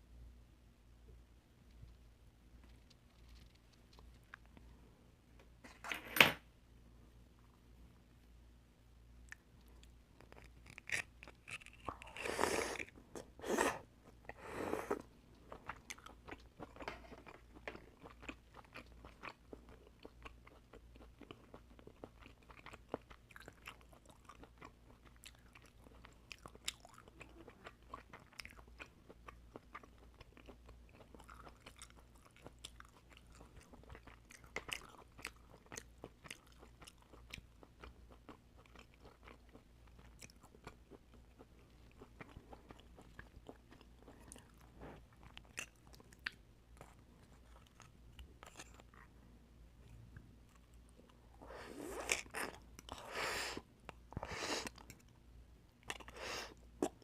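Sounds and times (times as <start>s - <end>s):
person chewing oysters: 9.3s - 49.2s, 49.8s - 57.0s.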